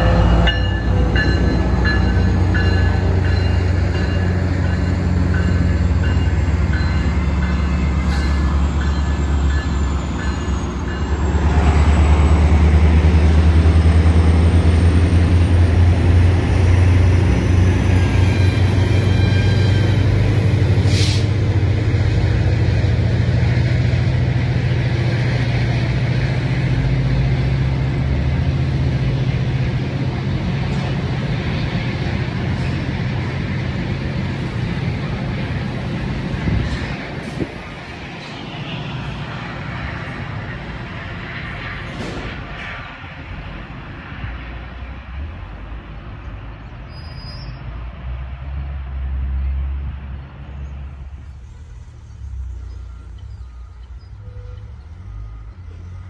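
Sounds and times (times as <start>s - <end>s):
train wheels rumbling over rails: 0.0s - 47.1s
diesel locomotive engine hum: 0.0s - 56.0s.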